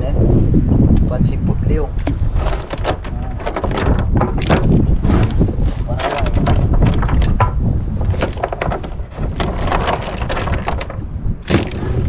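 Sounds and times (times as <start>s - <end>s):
wind rumble on microphone: 0.0s - 12.0s
irregular clicks and knocks: 2.0s - 12.0s.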